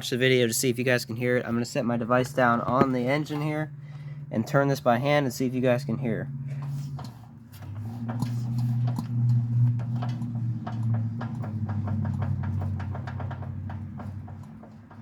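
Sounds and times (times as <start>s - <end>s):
steady low hum: 0.0s - 14.8s
engine clicking and knocking: 2.4s - 15.0s.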